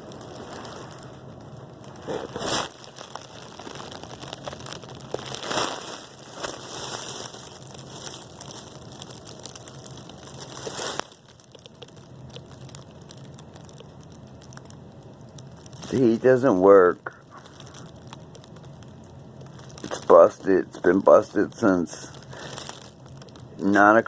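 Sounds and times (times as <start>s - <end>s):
quiet hiss: 0.0s - 24.0s
rustling crinkling noise: 0.0s - 24.0s.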